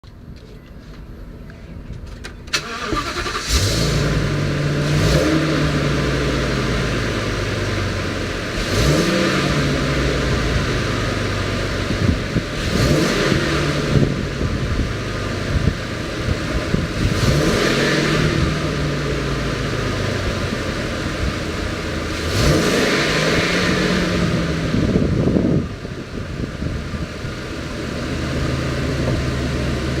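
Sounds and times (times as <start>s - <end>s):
truck engine idling and revving: 0.0s - 30.0s.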